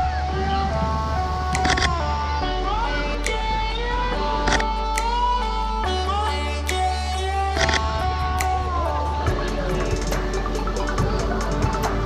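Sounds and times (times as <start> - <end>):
steady bass line: 0.0 - 12.0
plucked strings melody: 1.4 - 12.0.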